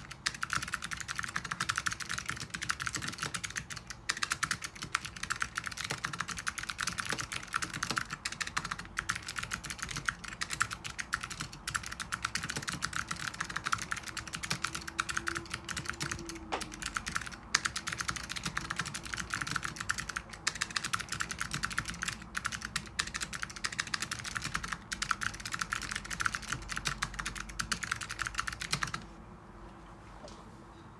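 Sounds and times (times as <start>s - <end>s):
fast typing on mechanical keyboard: 0.0s - 29.1s.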